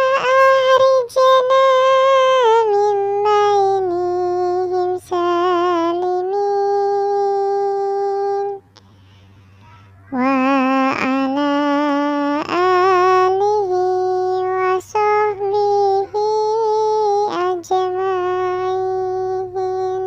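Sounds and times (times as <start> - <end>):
child-like voice singing: 0.0 - 8.6, 9.6 - 20.0.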